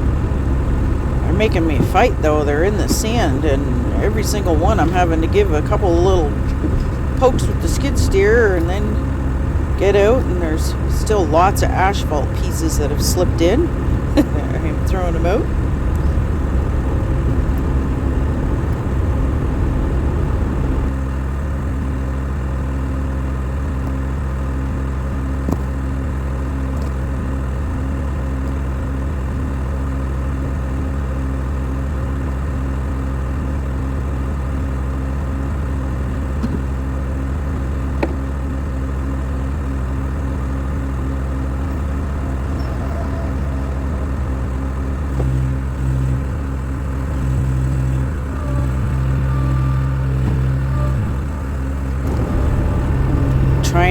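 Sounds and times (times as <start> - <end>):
skid steer engine running: 0.0 - 53.9.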